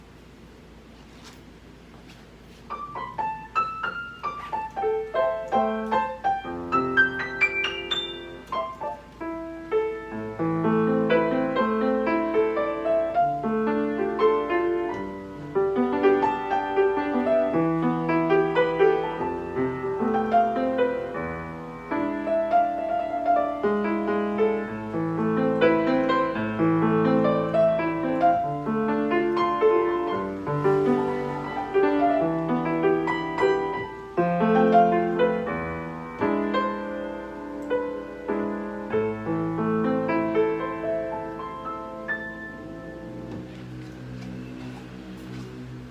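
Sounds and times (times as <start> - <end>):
piano melody over chords: 2.7 - 45.9.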